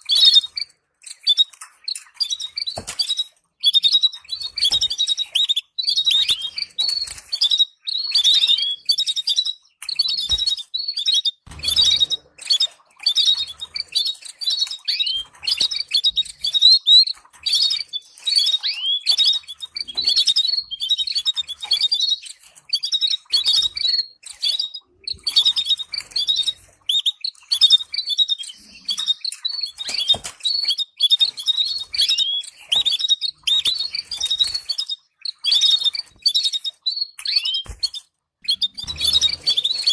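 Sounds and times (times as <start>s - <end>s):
canary singing chirps and trills: 0.0s - 39.9s.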